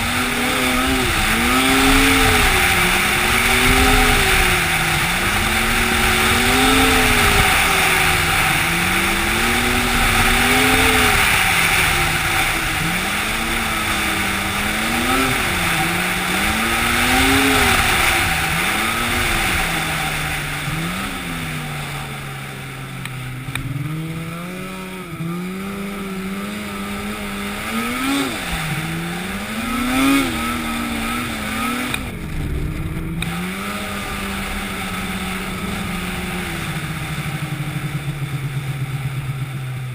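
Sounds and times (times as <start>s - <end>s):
engine revving: 0.0s - 39.9s.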